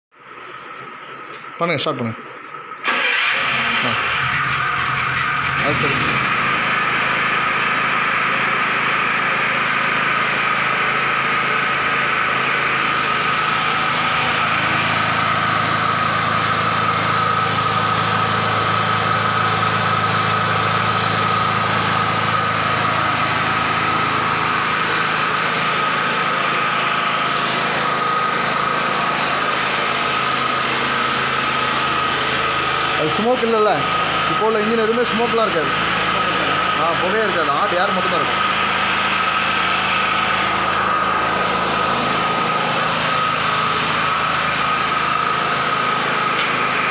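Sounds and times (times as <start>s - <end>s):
petrol generator running: 0.2s - 46.9s.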